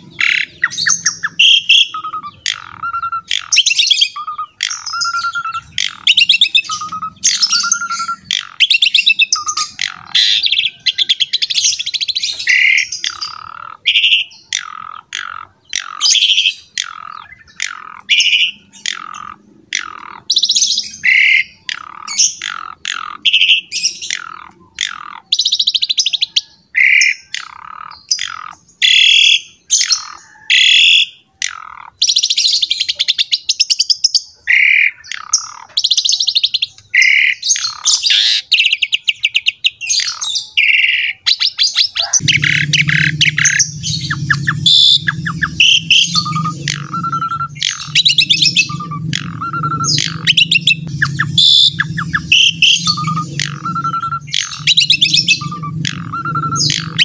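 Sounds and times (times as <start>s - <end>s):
starling singing: 0.0s - 57.0s.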